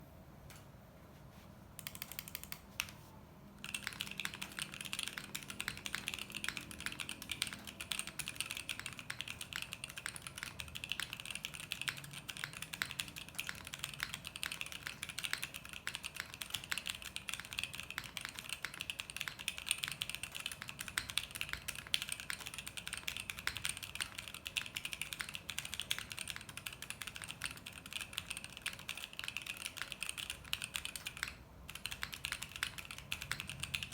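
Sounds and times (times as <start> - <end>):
clacky mechanical keyboard typing: 1.8 - 3.0, 3.6 - 33.9.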